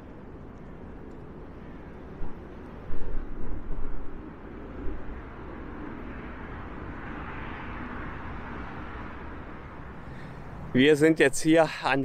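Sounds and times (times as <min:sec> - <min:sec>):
vehicle passing with low rumble: 0:00.0 - 0:11.4.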